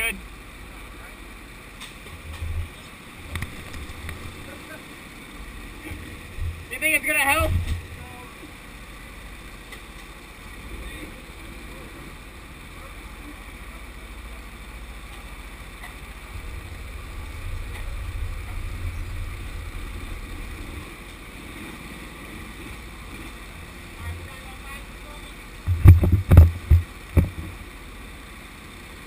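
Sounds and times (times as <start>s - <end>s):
go-karts idling: 2.7s - 29.0s.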